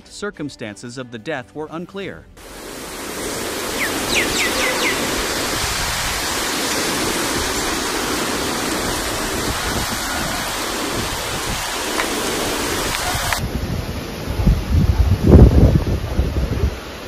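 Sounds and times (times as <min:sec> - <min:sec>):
rushing wind and rain: 0:02.4 - 0:17.0.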